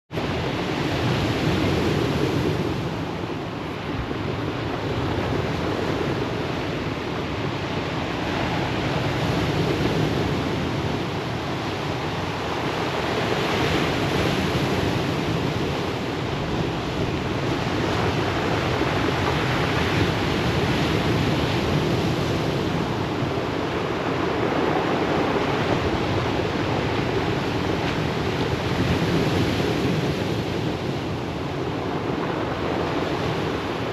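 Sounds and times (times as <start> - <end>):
surf washing on pebble beach: 0.2 - 33.9.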